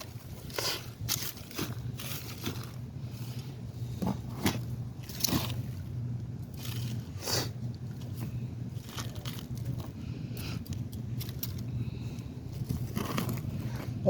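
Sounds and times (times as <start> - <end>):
digging in damp soil: 0.0 - 14.0.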